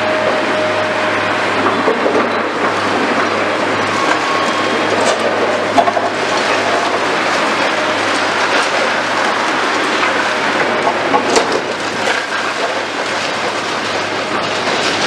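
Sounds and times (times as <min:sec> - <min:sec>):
excavator engine hum: 0:00.0 - 0:15.0.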